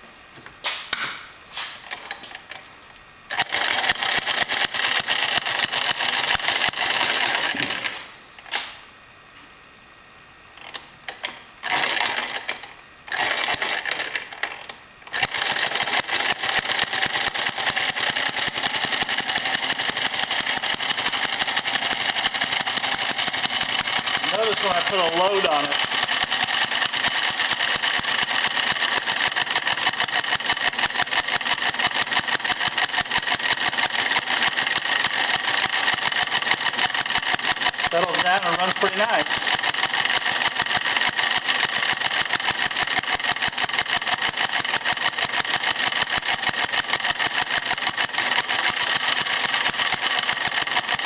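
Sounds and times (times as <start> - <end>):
small model engine running: 3.3 - 8.0, 11.6 - 51.0.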